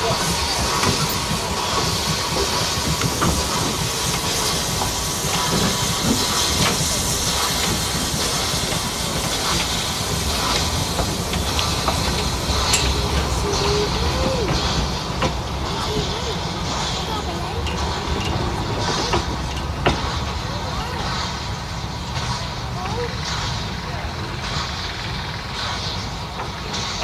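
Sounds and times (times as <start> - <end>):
hiss of steam: 0.0 - 27.0
low rumble of moving train: 0.0 - 27.0
wheels clicking on rails: 0.0 - 27.0.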